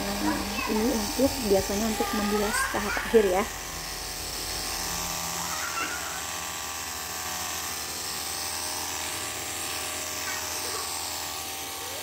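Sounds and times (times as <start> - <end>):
pump motor humming: 0.0 - 12.0.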